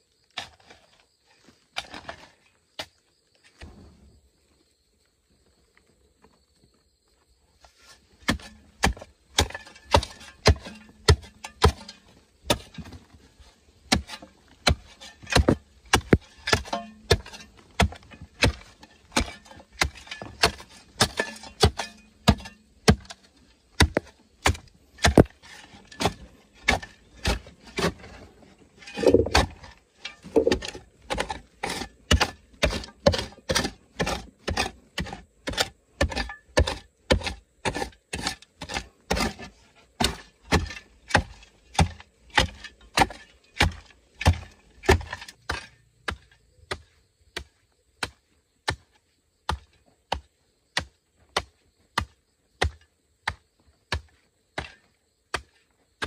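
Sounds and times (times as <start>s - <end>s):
hoe chopping into hard soil: 8.2s - 13.2s, 13.8s - 23.2s, 23.8s - 28.2s, 28.8s - 55.6s.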